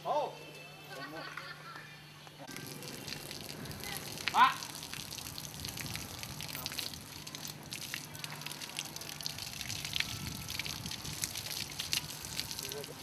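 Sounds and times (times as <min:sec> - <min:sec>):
water dripping: 0:02.5 - 0:13.0
water trickling and splashing: 0:02.5 - 0:13.0.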